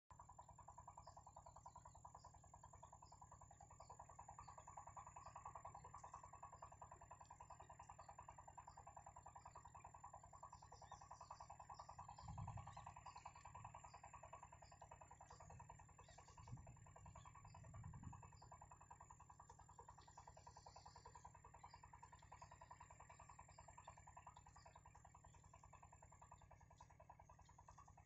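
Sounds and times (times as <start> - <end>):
rapidly pulsing animal call: 0.1 - 28.0.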